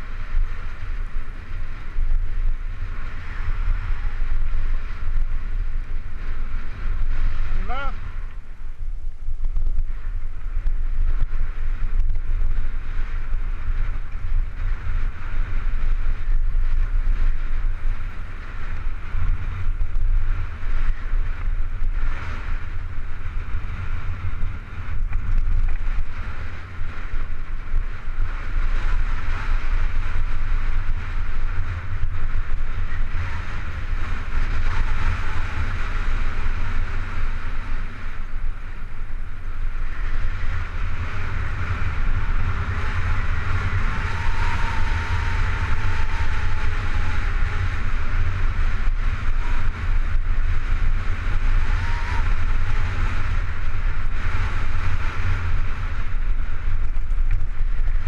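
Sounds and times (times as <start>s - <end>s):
tyres rumbling on dirt trail: 0.0s - 58.0s
wind buffeting microphone: 0.0s - 58.0s.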